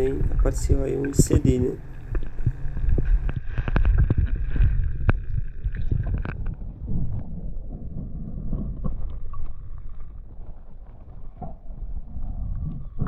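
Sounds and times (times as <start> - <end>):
muffled underwater rumble: 0.0 - 13.0
sharp clicks underwater: 0.0 - 13.0.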